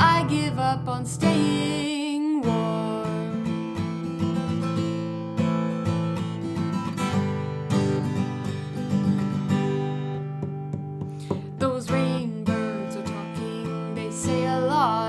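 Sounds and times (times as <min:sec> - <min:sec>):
acoustic guitar strumming chords: 0:02.5 - 0:15.0.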